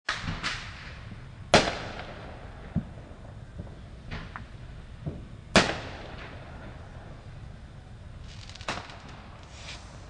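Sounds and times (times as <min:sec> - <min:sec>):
fireworks exploding: 0:00.1 - 0:07.2, 0:08.2 - 0:10.0.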